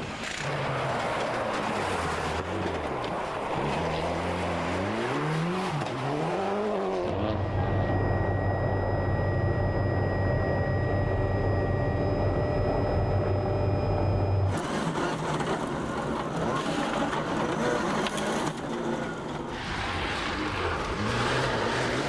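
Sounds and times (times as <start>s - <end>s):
rally car engine droning: 0.0s - 22.0s.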